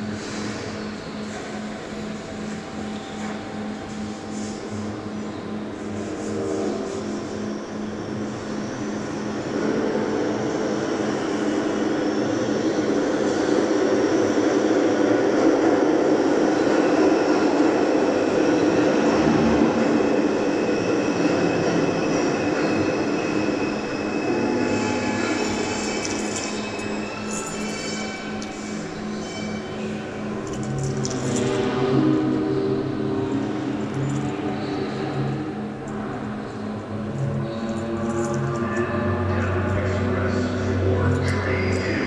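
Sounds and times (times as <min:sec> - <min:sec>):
passing train rumble: 0:00.0 - 0:42.0.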